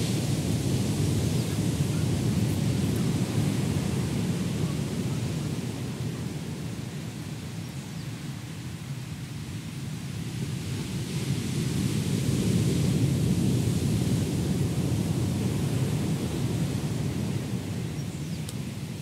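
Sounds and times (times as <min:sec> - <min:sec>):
waves breaking on beach: 0:00.0 - 0:19.0.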